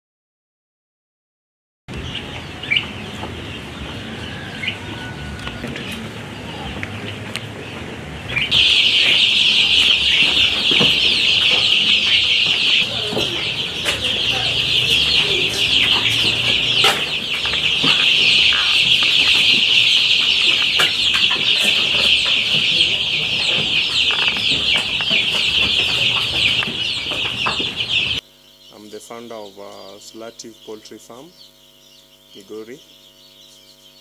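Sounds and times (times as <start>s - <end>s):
chicks peeping: 1.9s - 34.0s.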